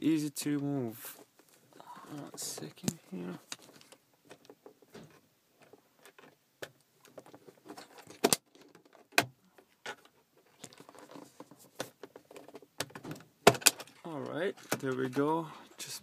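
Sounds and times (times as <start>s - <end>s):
plastic clicks and scraping: 1.4s - 15.4s.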